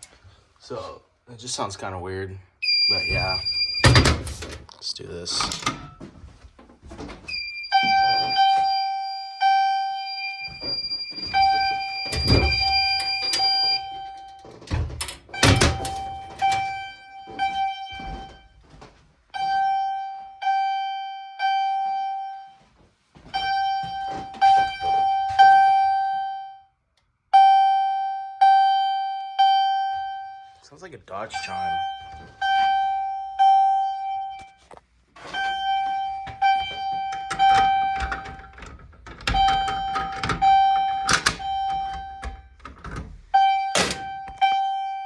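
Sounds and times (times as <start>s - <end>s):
fire alarm chimes ringing: 2.6s - 4.7s, 7.3s - 18.7s, 19.3s - 22.7s, 23.3s - 26.7s, 27.3s - 45.0s.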